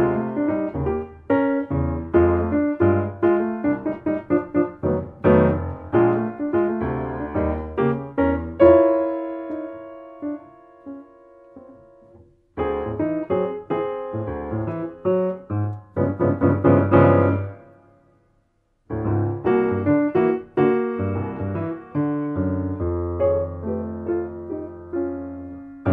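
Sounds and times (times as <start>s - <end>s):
solo jazz piano: 0.0s - 25.9s.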